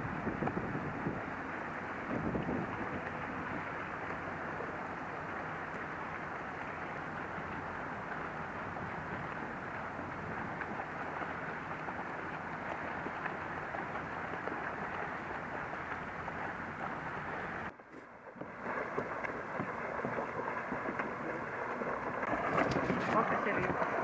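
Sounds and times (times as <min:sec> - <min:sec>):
faint splashes: 0:00.0 - 0:24.0
lapping water: 0:00.0 - 0:24.0
wind: 0:00.0 - 0:24.0.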